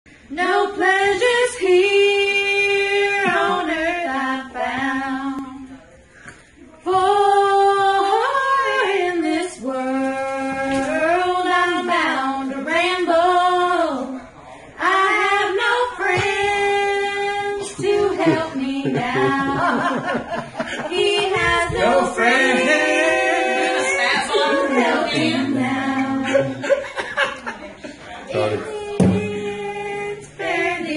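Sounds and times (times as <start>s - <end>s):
women singing a cappella: 0.1s - 6.0s, 6.8s - 26.8s, 28.0s - 30.9s.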